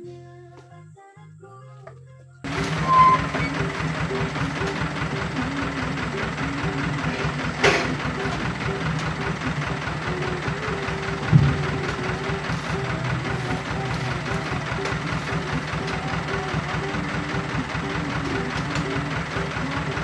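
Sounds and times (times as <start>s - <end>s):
truck engine idling: 2.4s - 20.0s.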